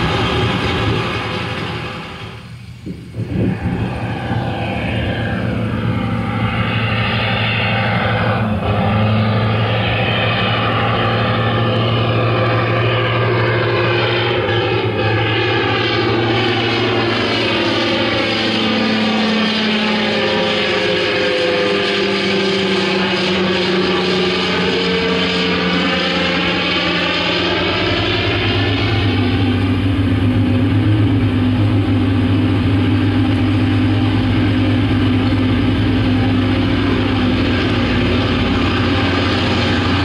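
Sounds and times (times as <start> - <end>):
propeller aircraft droning: 0.0 - 40.0.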